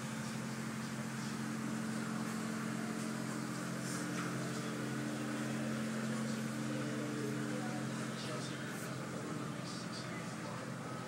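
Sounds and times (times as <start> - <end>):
car wash machinery hum: 0.0 - 11.0.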